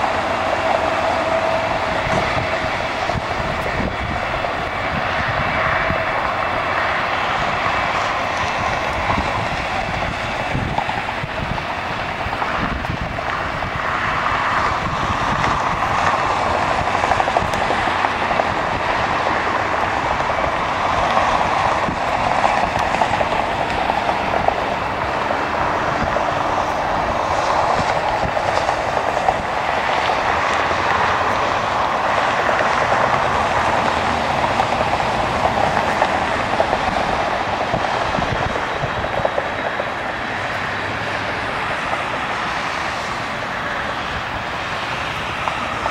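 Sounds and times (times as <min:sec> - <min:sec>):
distant jet engines: 0:00.0 - 0:45.9.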